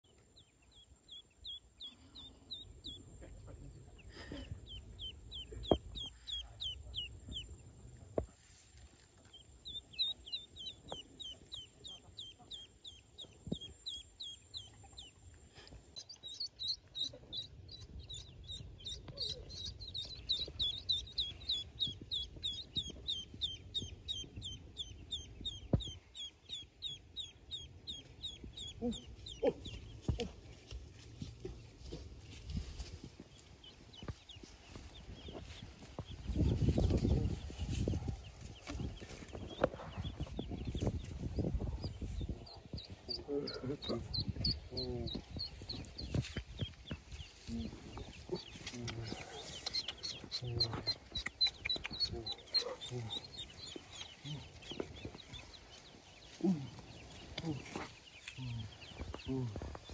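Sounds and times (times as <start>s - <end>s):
ducklings peeping: 0.0s - 8.4s, 9.2s - 59.9s.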